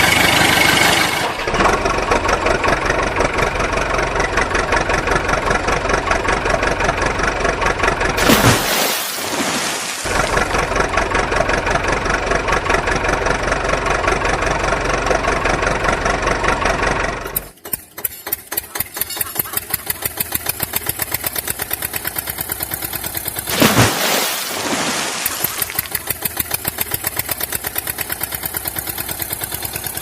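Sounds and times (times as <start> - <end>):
small engine running: 0.0 - 8.4, 10.1 - 30.0.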